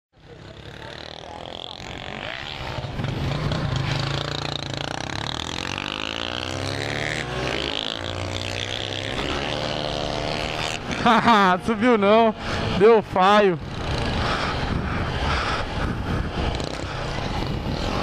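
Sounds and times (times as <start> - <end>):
motorcycle accelerating: 0.2 - 18.0
motorcycle engines running: 0.2 - 18.0.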